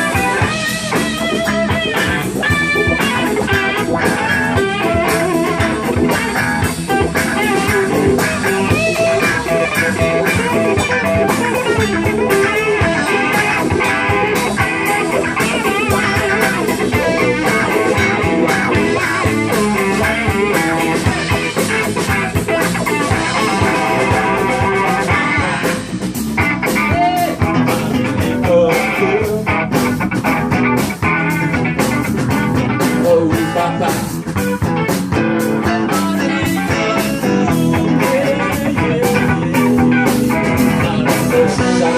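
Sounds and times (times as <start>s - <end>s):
blues-rock band playing: 0.0s - 41.9s
electric guitar: 0.0s - 41.9s
steady drum beat: 0.0s - 41.9s.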